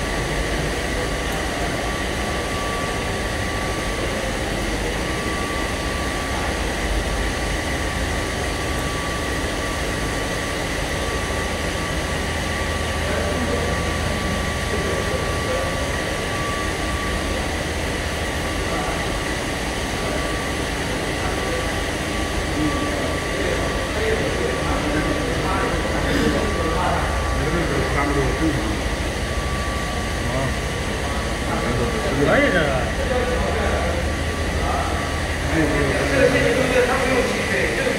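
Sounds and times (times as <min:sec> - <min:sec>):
machine hum: 0:00.0 - 0:37.9
steady high whine: 0:00.0 - 0:37.9.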